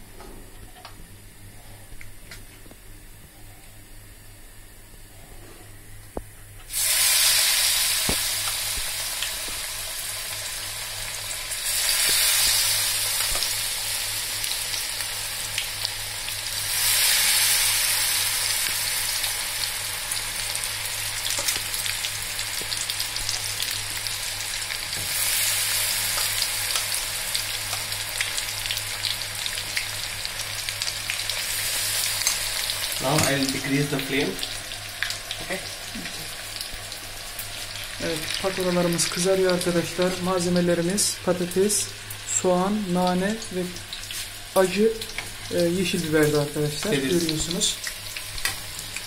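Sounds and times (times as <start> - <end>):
oil sizzling: 6.7 - 49.0.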